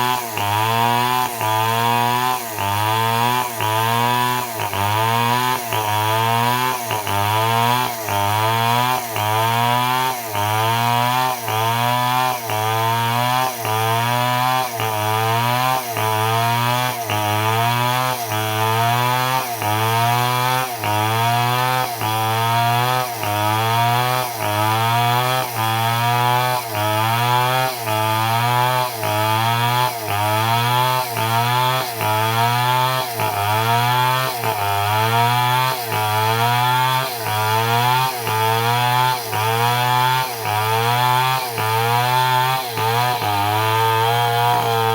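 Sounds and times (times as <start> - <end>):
chainsaw cutting a log: 0.0 - 44.9.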